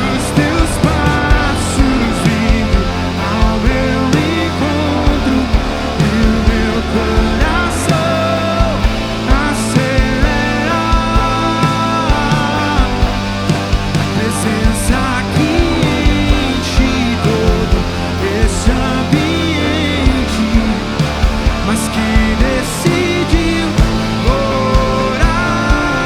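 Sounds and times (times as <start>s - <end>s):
band playing instrumental: 0.0s - 26.0s
drums keeping a steady beat: 0.0s - 26.0s.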